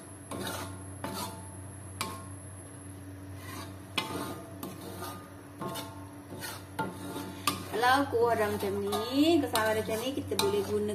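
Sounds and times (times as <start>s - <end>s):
metal spatula scraping wok: 0.2s - 2.3s, 3.3s - 10.9s.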